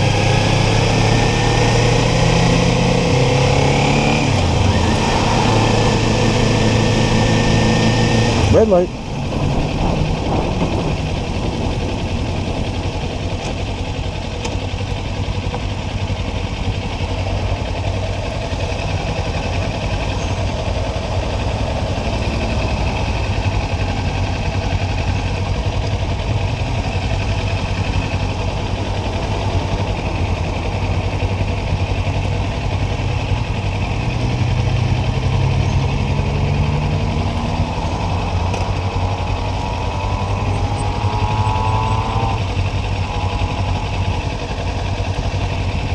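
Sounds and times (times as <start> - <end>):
motorcycle engine revving: 0.0 - 45.9
motorcycle engine idling: 4.2 - 36.0, 37.3 - 45.9.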